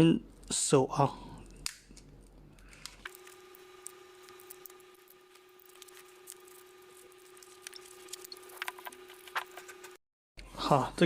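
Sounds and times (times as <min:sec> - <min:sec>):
steady hum: 0:00.2 - 0:11.0.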